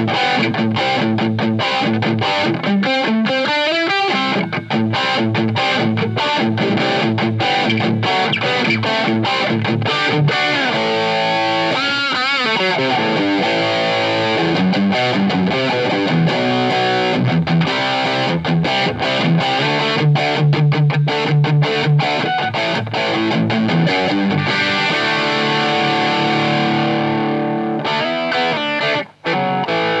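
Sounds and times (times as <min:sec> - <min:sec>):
distorted electric guitar: 0:00.0 - 0:30.0.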